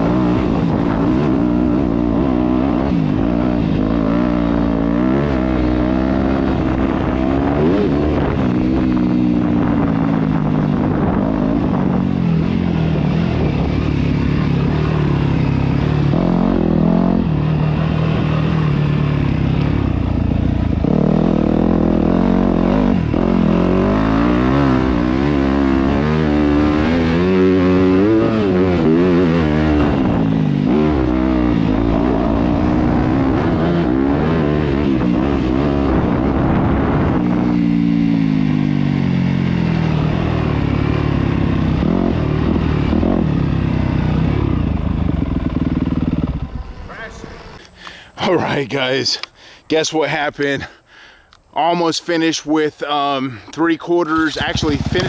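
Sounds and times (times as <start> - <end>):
dirt bike engine revving: 0.0 - 48.5, 52.8 - 55.0.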